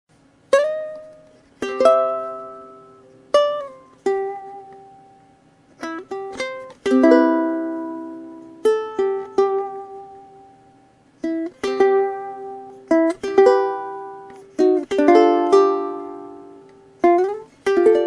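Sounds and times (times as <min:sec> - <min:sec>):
ukulele plucked and strummed: 0:00.4 - 0:18.0.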